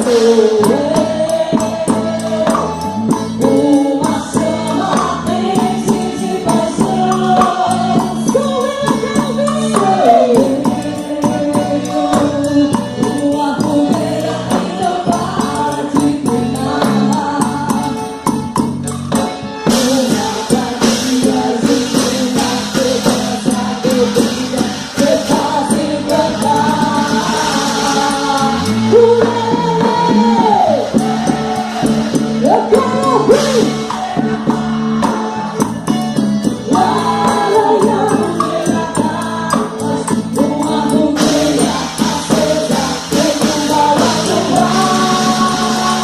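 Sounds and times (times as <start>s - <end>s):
singing over percussion beat: 0.0s - 46.0s.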